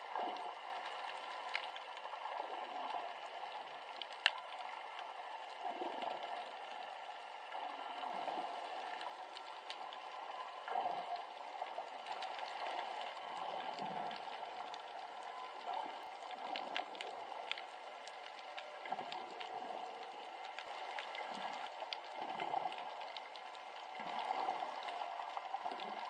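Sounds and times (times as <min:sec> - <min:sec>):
small splashes and drips: 0:00.0 - 0:06.9, 0:07.5 - 0:26.0.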